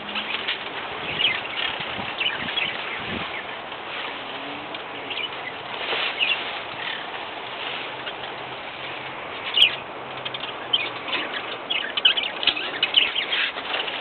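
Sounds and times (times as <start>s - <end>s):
parakeets chirping and chattering: 0.0s - 14.0s.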